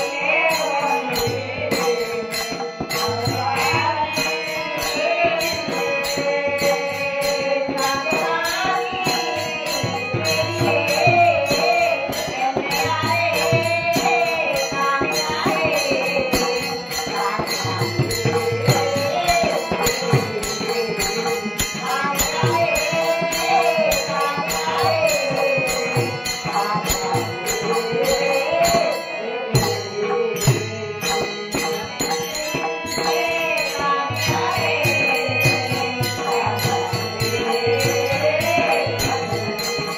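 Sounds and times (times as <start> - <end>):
group singing: 0.0 - 39.9
jingling rattling percussion: 0.0 - 39.9
woman singing devotional song: 0.0 - 39.9.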